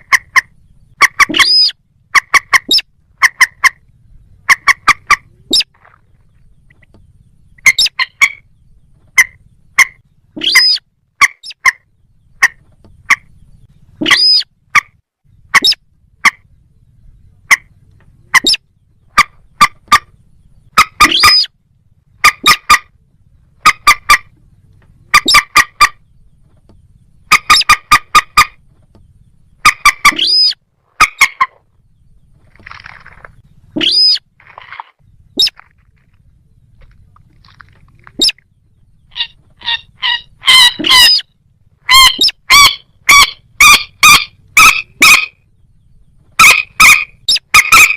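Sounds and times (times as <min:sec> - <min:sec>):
short sharp bird calls: 0:00.0 - 0:16.6, 0:17.4 - 0:21.6, 0:25.1 - 0:31.8, 0:32.4 - 0:47.9
rising and falling bird calls: 0:00.0 - 0:47.9.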